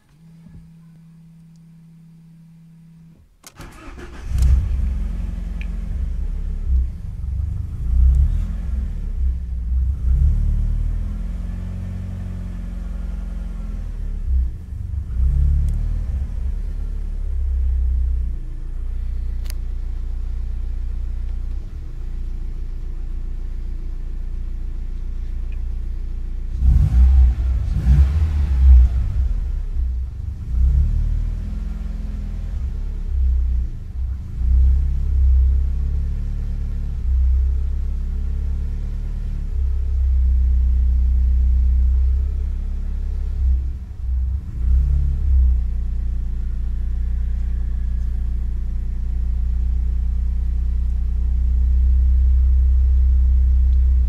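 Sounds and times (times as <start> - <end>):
car engine starting and idling unevenly: 3.1 - 54.0.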